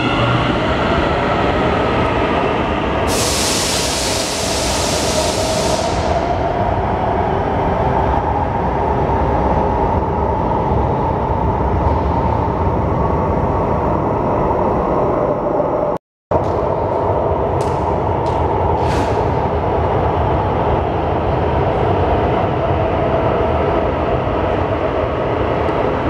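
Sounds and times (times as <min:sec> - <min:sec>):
metro train rumbling and humming: 0:00.0 - 0:26.0.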